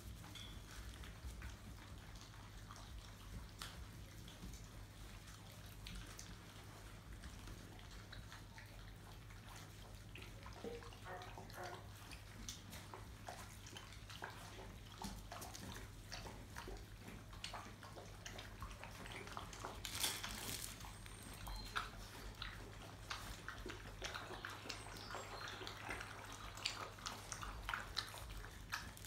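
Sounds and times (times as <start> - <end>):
rustle: 0.0 - 10.8, 11.8 - 29.0
puppies crunching dry kibble: 0.0 - 29.0.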